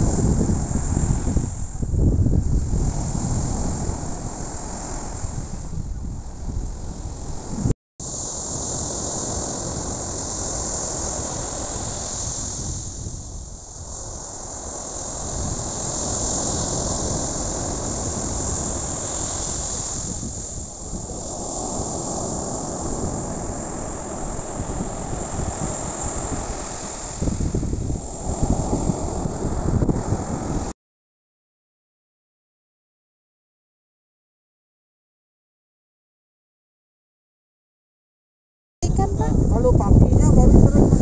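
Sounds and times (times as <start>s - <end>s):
wind on microphone: 0.0s - 30.7s, 38.8s - 41.0s
heavy surf breaking on beach: 0.0s - 30.8s, 38.8s - 41.0s.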